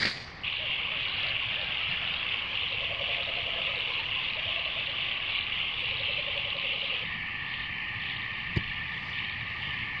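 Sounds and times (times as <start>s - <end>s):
rapid pulsing calls: 0.0s - 10.0s.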